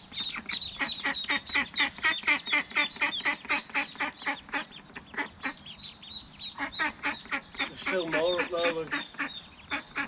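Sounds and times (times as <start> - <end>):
ducklings peeping: 0.0 - 10.0
duck quacking: 0.2 - 5.6, 6.6 - 10.0.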